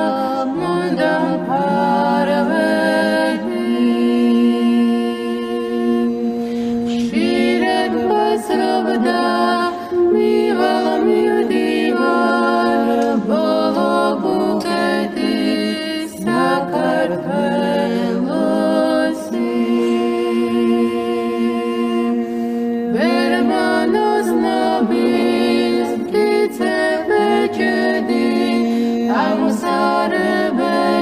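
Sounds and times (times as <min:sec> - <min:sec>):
unaccompanied voices singing chant: 0:00.0 - 0:31.0.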